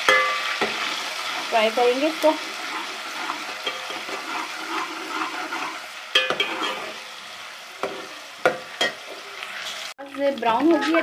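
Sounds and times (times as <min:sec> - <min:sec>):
onion sizzling in a pot: 0:00.0 - 0:11.0.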